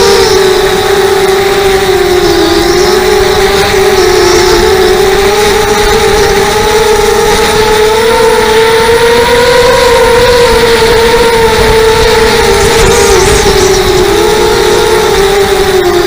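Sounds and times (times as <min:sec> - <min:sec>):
strong wind whistling: 0:00.0 - 0:16.0.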